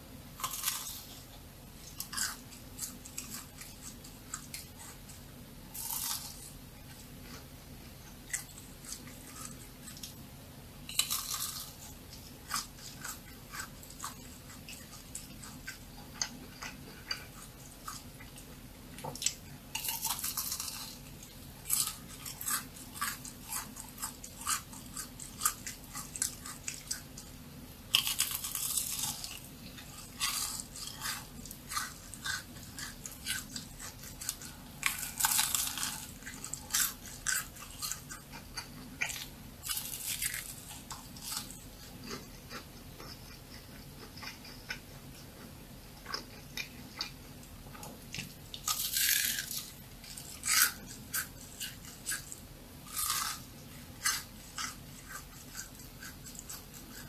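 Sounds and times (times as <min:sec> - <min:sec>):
chewing crisp food: 0:00.3 - 0:57.0.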